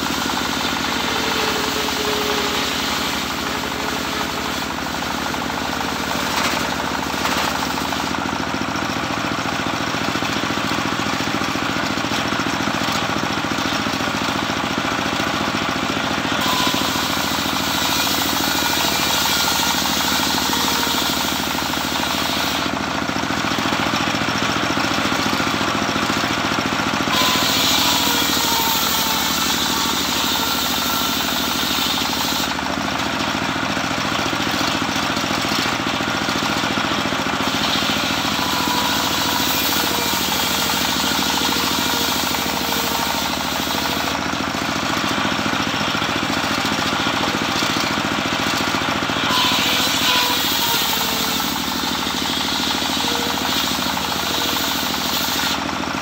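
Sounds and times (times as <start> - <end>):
circular saw cutting wood: 0.0 - 56.0
engine droning: 0.0 - 56.0.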